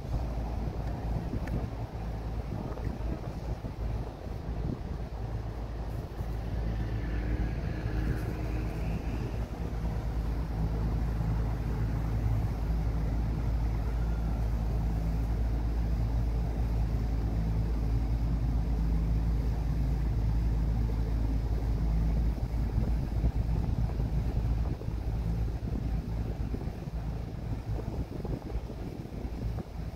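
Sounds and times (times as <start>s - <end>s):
motorboat engine running: 0.0s - 29.9s
wind noise on microphone: 0.0s - 29.9s.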